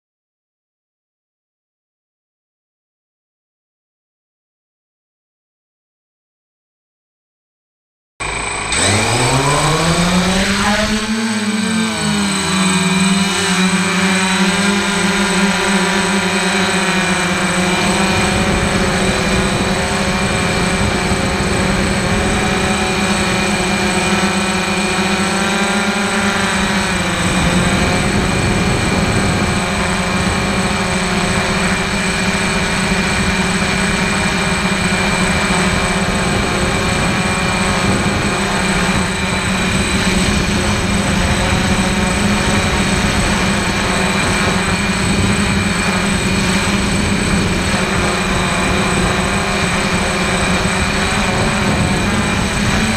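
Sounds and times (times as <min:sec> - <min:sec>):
drone motors and propellers buzzing: 0:08.2 - 0:52.9.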